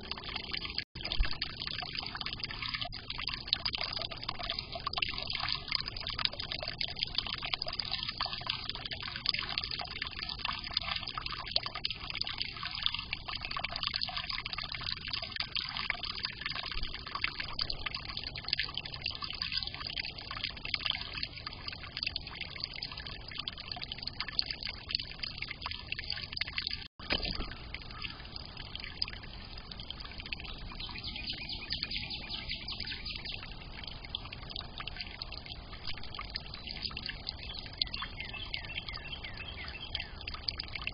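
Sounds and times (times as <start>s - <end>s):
fountain water trickling: 0.0s - 40.9s.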